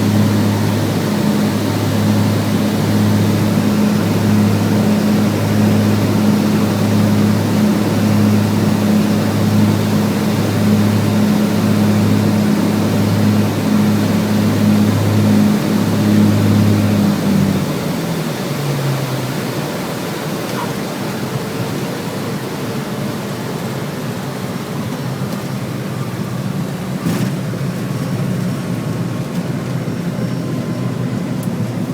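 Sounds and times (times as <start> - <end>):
aircraft engines droning: 0.0 - 31.9.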